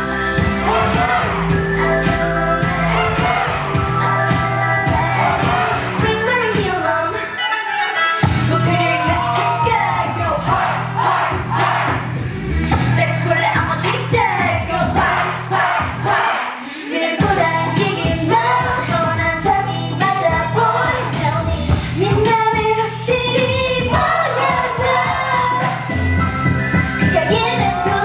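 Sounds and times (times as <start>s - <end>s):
woman singing: 0.0s - 10.5s, 12.9s - 15.0s, 16.6s - 26.1s, 27.0s - 28.0s
pop dance track: 0.0s - 12.0s, 12.7s - 28.0s.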